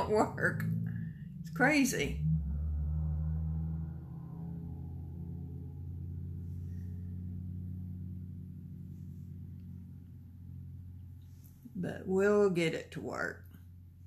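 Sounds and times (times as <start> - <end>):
low hum of held tones: 0.0 - 14.0.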